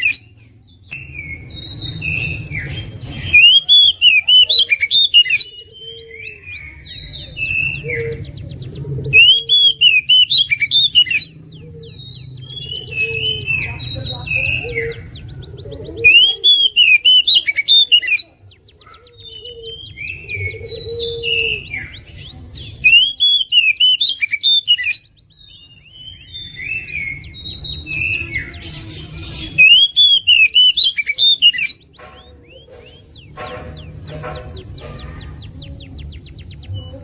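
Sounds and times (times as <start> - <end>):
magpie-robin singing: 0.0 - 37.0.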